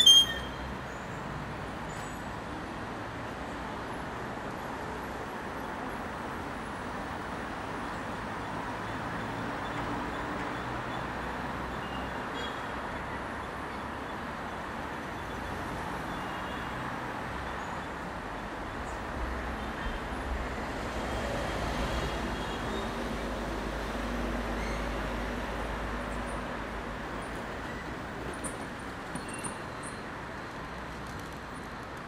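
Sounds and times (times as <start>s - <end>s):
street traffic passing: 0.0s - 32.0s.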